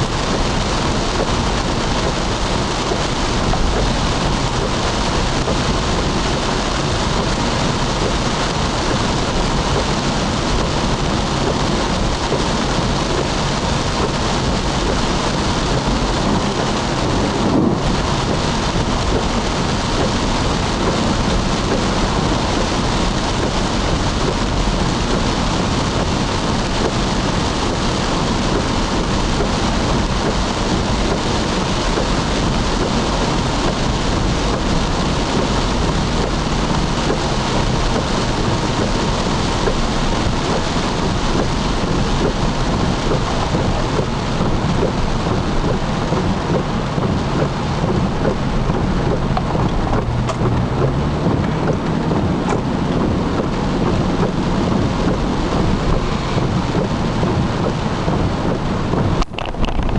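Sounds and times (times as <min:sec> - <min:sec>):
heavy rain on car windshield: 0:00.0 - 0:59.9.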